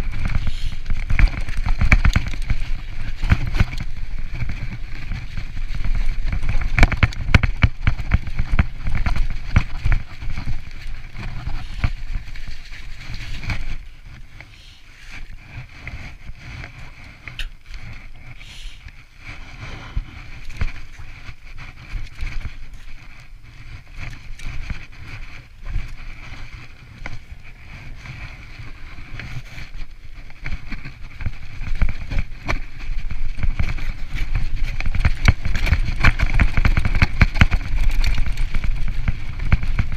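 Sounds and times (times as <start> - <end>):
bike rattling and knocking: 0.0 - 14.5, 19.2 - 39.9
wind rumbling on microphone: 0.0 - 39.9.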